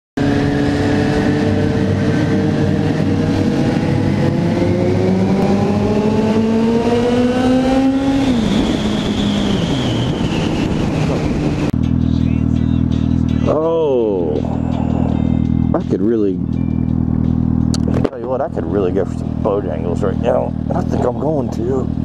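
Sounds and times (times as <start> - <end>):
lower engine tone: 0.2 - 22.0
motorcycle engine: 0.2 - 22.0.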